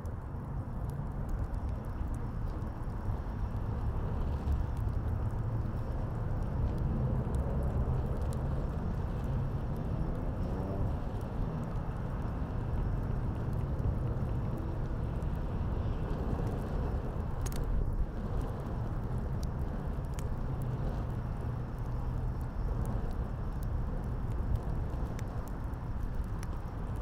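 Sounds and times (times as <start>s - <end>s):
city traffic rumble: 0.0s - 27.0s
fire crackling: 0.0s - 27.0s.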